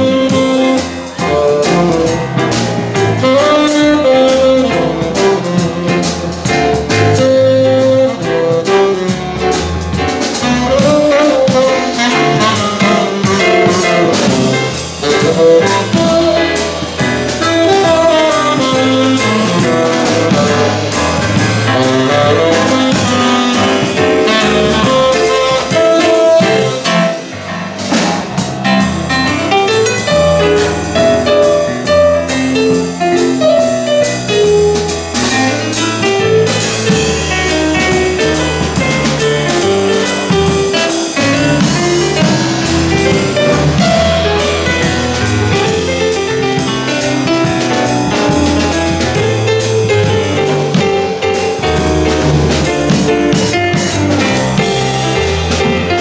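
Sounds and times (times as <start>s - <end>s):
drum kit: 0.0s - 56.0s
tenor saxophone lead: 0.0s - 56.0s.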